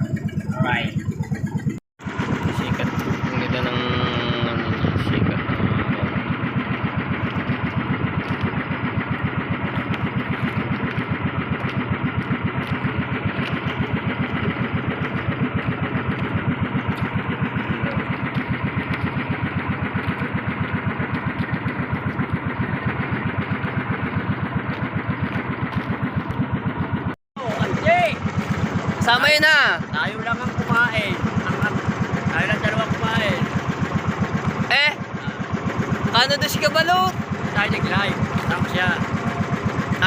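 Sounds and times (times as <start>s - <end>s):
boat engine chugging: 0.0s - 40.0s.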